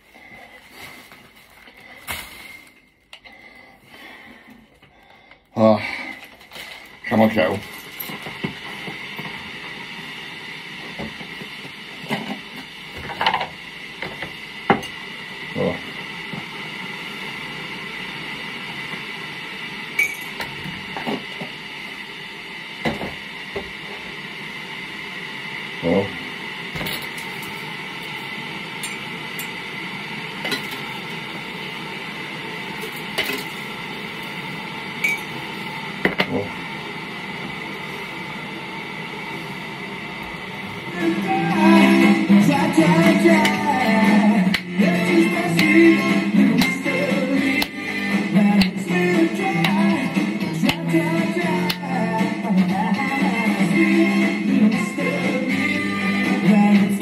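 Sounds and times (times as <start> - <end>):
steady background hum: 0.0 - 57.0.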